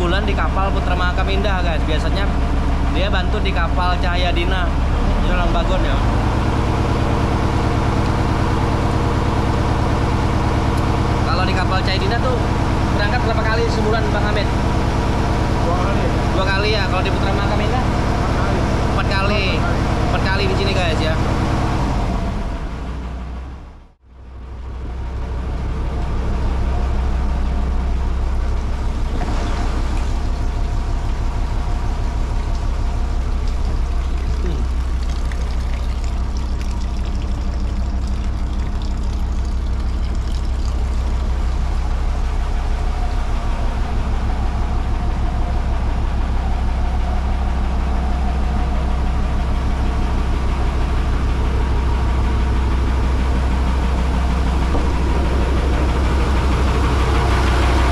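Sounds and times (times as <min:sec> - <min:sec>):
boat diesel engine running: 0:00.0 - 0:57.9.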